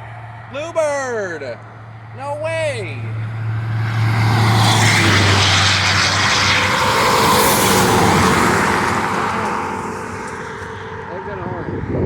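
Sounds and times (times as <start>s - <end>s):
large vehicle engine passing: 0.0s - 12.0s.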